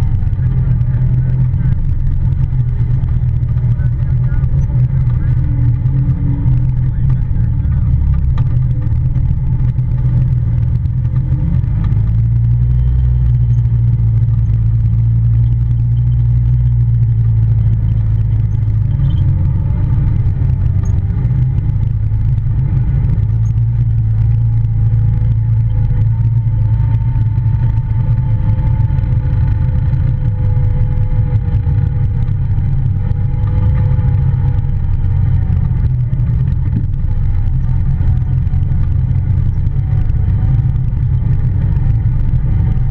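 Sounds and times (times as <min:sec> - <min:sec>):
low engine drone: 0:00.0 - 0:42.9.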